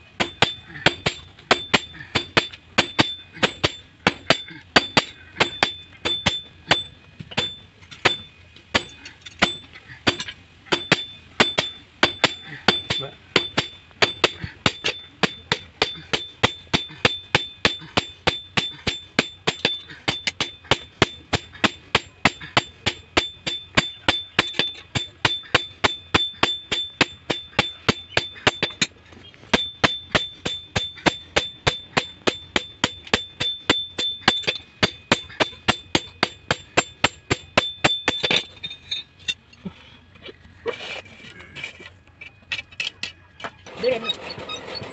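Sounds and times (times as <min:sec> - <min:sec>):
hammer clanging on anvil: 0:00.1 - 0:28.9, 0:29.5 - 0:39.4.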